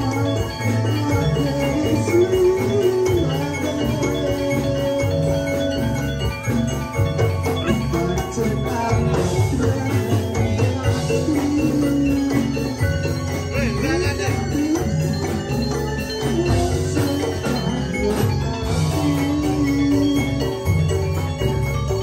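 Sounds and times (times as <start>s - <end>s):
repeating drum beat: 0.0s - 22.0s.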